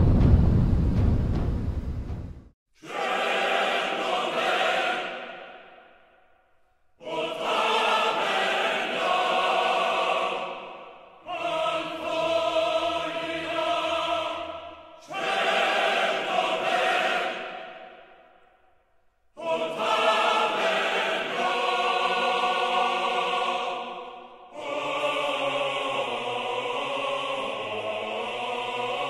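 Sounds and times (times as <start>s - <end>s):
choir singing held chords: 2.8s - 29.0s.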